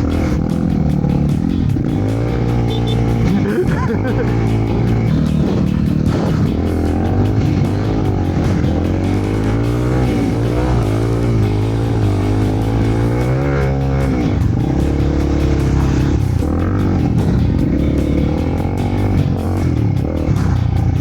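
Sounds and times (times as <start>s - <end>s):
dirt bike engine revving: 0.0s - 21.0s
music: 0.0s - 21.0s.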